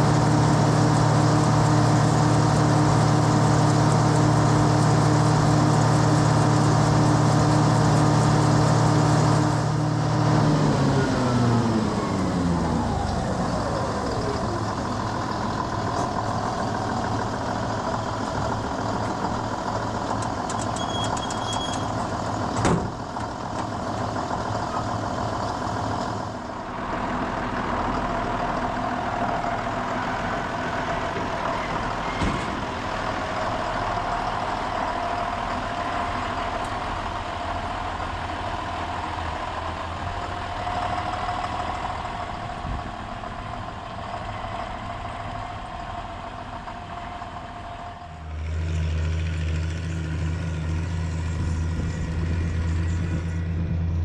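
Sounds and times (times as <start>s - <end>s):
deeper engine hum: 0.0s - 54.0s
tractor diesel engine running: 0.0s - 54.0s.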